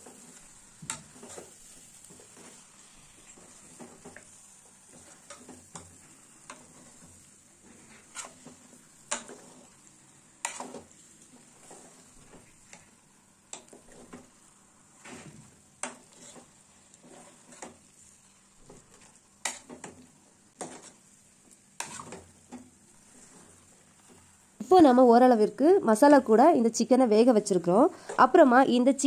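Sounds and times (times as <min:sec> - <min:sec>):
faint sizzle of frying: 0:00.0 - 0:29.0.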